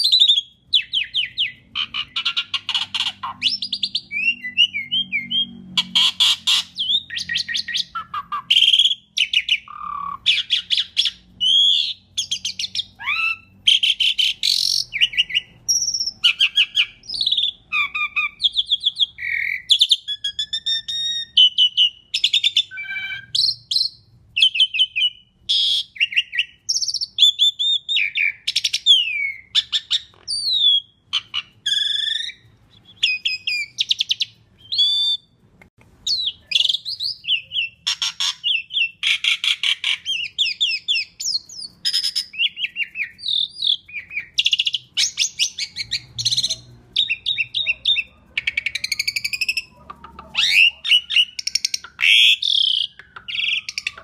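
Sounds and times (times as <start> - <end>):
starling singing: 0.0 - 35.4, 36.0 - 54.0.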